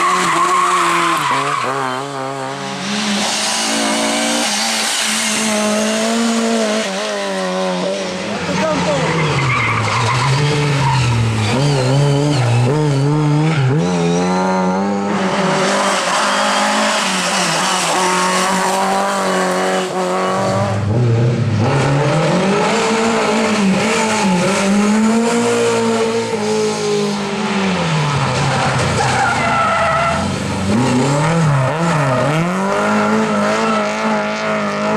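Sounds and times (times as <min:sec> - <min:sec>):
rally car engine revving: 0:00.0 - 0:34.9
tyres skidding and squealing: 0:00.0 - 0:34.9.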